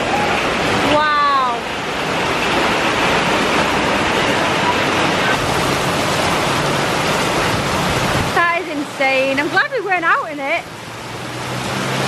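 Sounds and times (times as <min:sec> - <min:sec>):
heavy rain on pavement and cars: 0:00.0 - 0:12.0.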